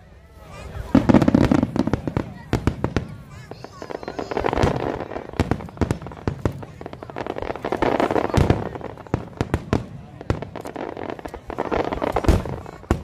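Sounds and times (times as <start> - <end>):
fireworks bangs: 0.5 - 13.0
fireworks crackle: 0.5 - 13.0.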